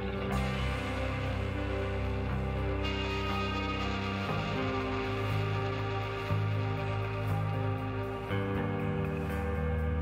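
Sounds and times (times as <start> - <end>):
instrumental music chords: 0.0 - 10.0.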